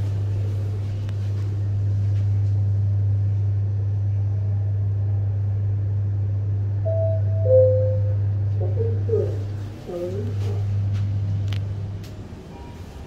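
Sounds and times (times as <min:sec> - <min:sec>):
elevator hum and ride noise: 0:00.0 - 0:13.0.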